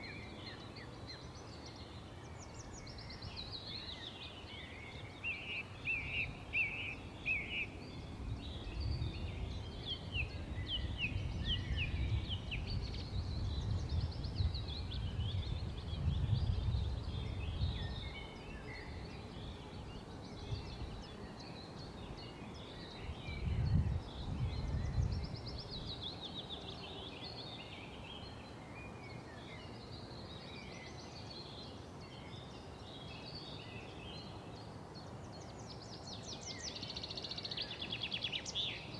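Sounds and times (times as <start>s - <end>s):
wild birds singing and chirping: 0.0s - 38.9s.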